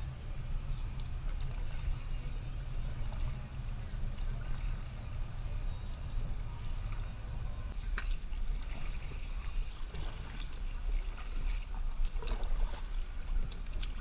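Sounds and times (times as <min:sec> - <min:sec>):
paddle splashing and dripping: 0:00.0 - 0:14.0
steady low rumble: 0:00.0 - 0:14.0.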